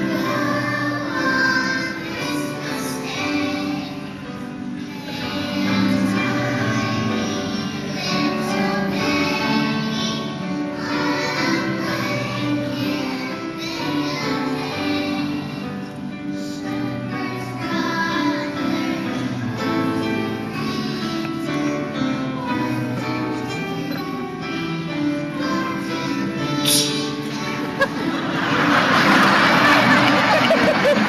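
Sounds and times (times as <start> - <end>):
children's choir singing: 0.0 - 31.0.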